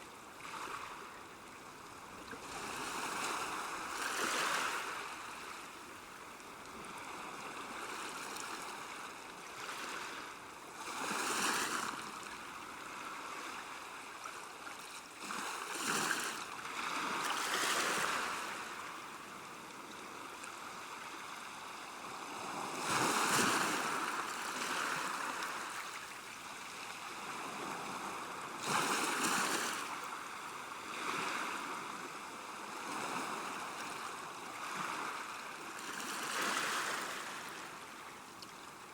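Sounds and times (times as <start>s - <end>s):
small waves washing onto shore: 0.1s - 38.9s.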